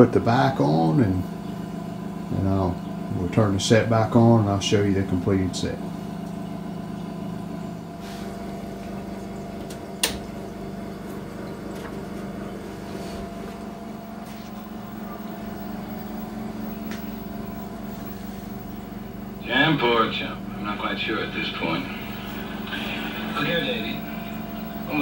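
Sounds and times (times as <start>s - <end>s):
television electrical hum: 0.0s - 25.0s.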